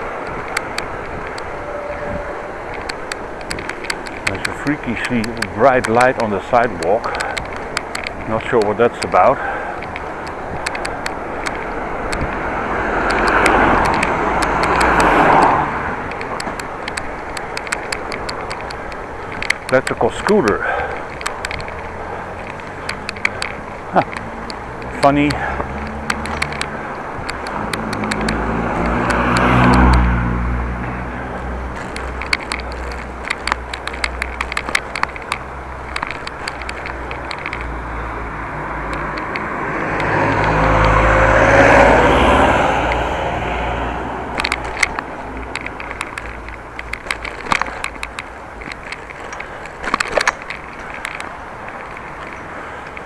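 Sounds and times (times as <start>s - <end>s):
bicycle rumble: 0.0s - 53.0s
motor vehicles passing: 0.0s - 53.0s
small clicks and rattles: 0.0s - 53.0s.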